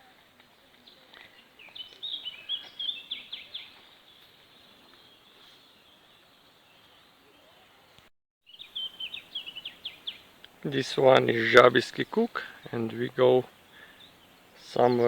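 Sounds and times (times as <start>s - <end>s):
faint background hiss: 0.0s - 15.0s
songbird singing: 0.0s - 15.0s.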